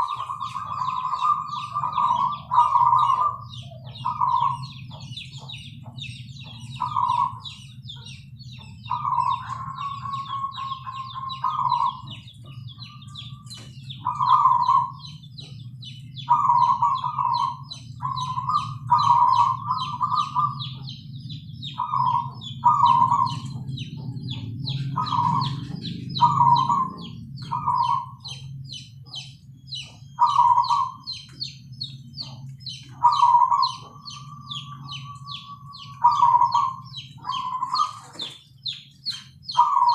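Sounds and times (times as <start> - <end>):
doves cooing: 0.0 - 39.9
small birds chirping: 0.0 - 39.9
steady low hum: 0.0 - 39.9.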